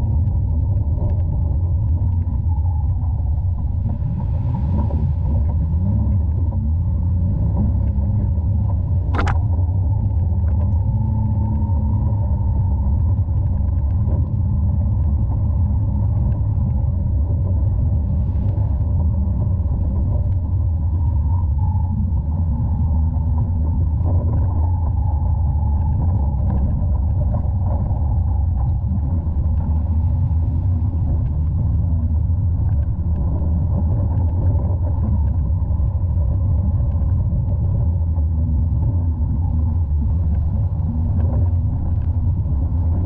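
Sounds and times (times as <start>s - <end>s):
muffled off-road vehicle rumble: 0.0s - 43.0s.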